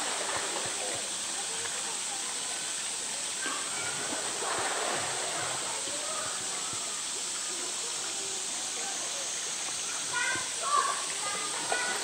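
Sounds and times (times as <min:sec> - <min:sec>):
pool water splashing: 0:00.0 - 0:12.0
rush of moving water: 0:00.0 - 0:12.0.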